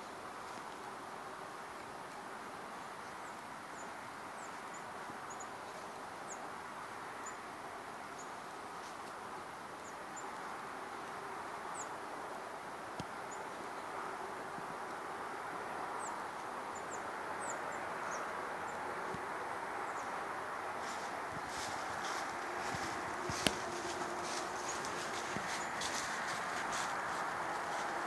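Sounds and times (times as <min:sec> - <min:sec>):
woodland rustle: 0:00.0 - 0:28.0
small birds chipping: 0:02.8 - 0:28.0.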